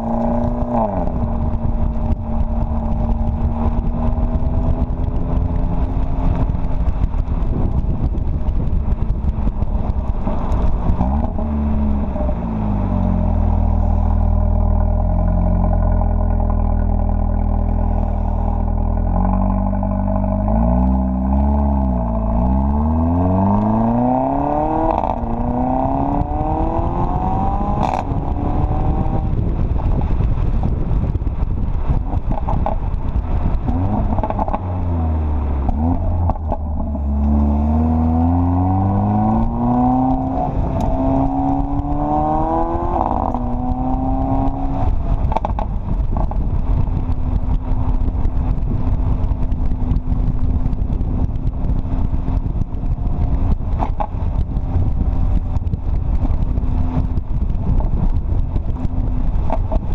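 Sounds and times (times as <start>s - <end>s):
car engine accelerating: 0.0s - 59.9s
exhaust pops and crackles: 0.0s - 59.9s.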